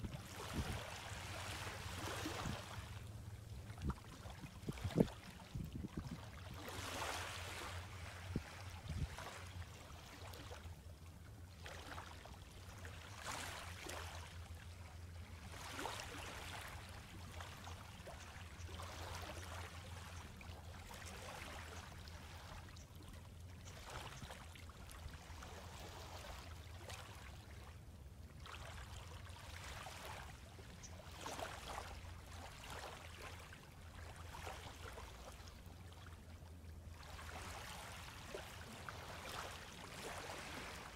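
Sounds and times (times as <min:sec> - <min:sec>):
gentle waves lapping on sand: 0:00.0 - 0:40.9.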